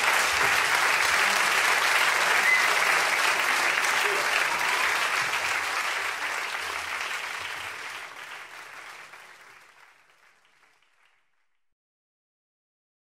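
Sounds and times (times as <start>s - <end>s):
audience applause: 0.0s - 11.6s.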